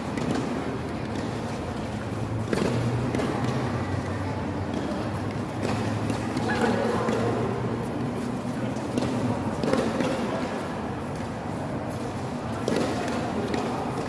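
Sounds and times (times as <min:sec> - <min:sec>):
murmur of faint voices: 0:00.0 - 0:14.0.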